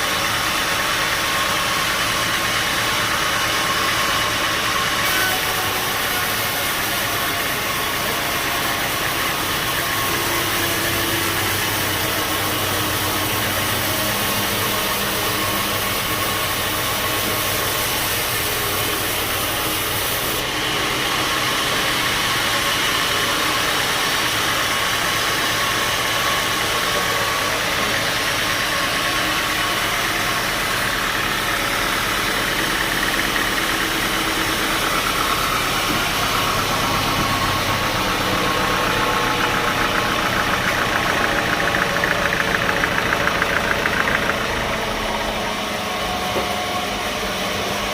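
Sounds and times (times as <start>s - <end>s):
band saw droning and hissing: 0.0s - 47.9s.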